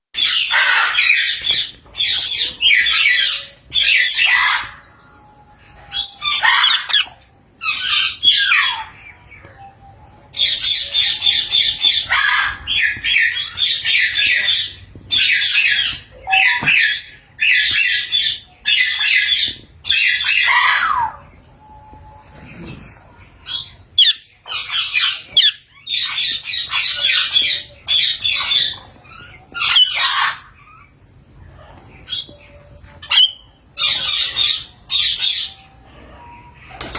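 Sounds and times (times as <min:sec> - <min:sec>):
parrot squawking and chattering: 0:00.2 - 0:04.8, 0:05.8 - 0:09.0, 0:10.4 - 0:21.2, 0:23.4 - 0:31.0, 0:32.1 - 0:35.6.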